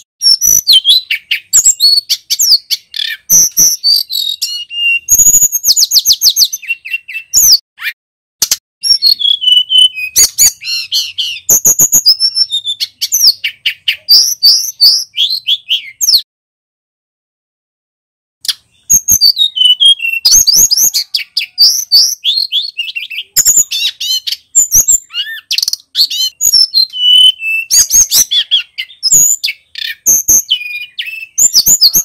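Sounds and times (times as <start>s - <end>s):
bird singing chirps and trills: 0.0s - 8.0s, 8.8s - 16.3s, 18.4s - 32.0s.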